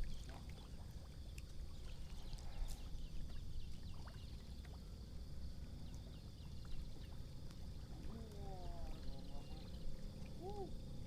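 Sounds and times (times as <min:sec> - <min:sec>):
steady low rumble: 0:00.0 - 0:11.0
water lapping against boat: 0:00.0 - 0:11.0.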